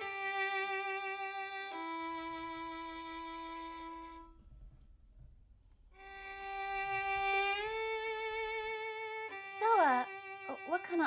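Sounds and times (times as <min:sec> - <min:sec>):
bowed string instrument with vibrato: 0:00.0 - 0:05.0, 0:05.9 - 0:11.0.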